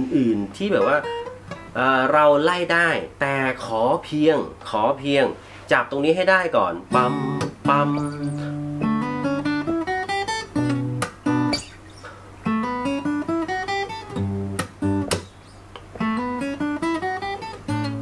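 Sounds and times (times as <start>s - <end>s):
acoustic guitar strumming and picking: 0.3s - 3.6s, 6.7s - 18.0s.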